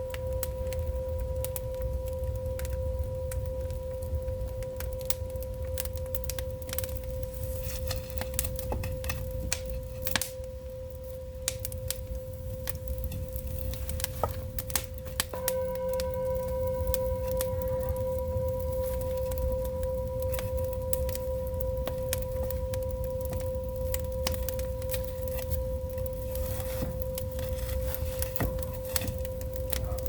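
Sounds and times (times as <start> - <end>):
firewood crackling and popping: 0.0 - 30.0
humming drone tone: 0.0 - 30.0
low fire rumble: 0.0 - 30.0.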